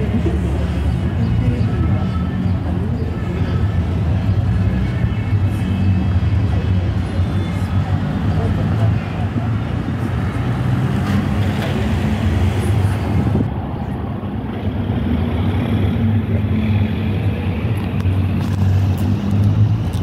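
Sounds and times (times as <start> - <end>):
car engines passing: 0.0 - 20.0.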